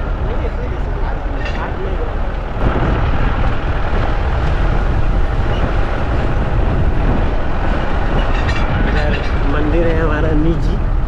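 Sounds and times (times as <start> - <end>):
car driving on dirt road: 0.0 - 11.0.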